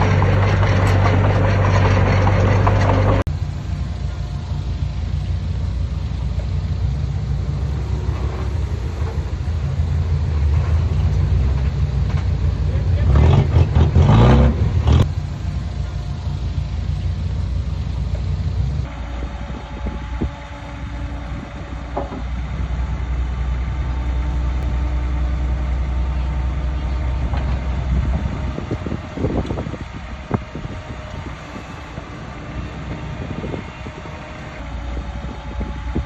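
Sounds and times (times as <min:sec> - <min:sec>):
diesel machinery droning: 0:00.0 - 0:36.0.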